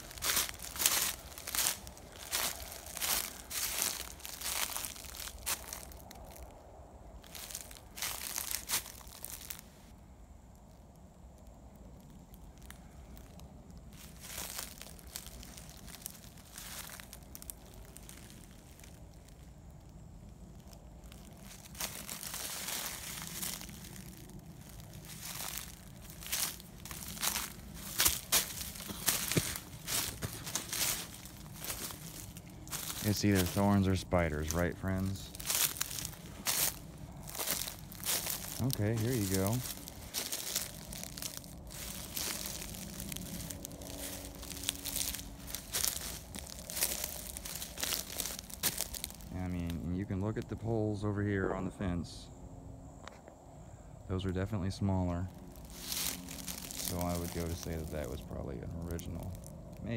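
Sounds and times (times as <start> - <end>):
footsteps crunching dry leaves: 0.0 - 9.9, 11.4 - 50.8, 54.7 - 59.9.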